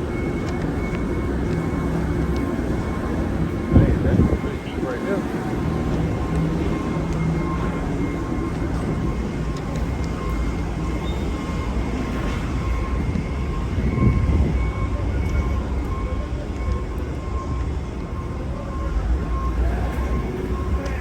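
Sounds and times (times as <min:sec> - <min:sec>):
heavy vehicle engine rumbling: 0:00.0 - 0:21.0.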